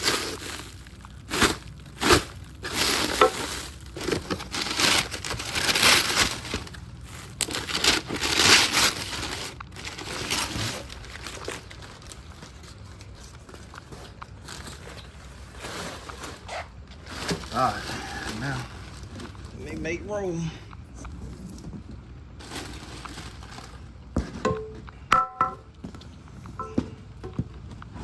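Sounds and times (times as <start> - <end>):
packing paper crinkling and tearing: 0.0 - 20.4, 21.4 - 24.2.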